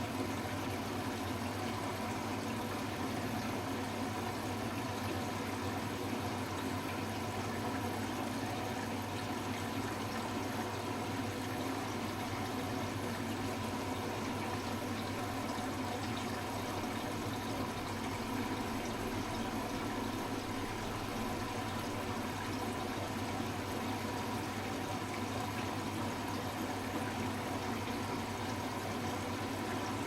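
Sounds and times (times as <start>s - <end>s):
rush of water in washing machine: 0.0s - 30.0s
washing machine low hum: 0.0s - 30.0s.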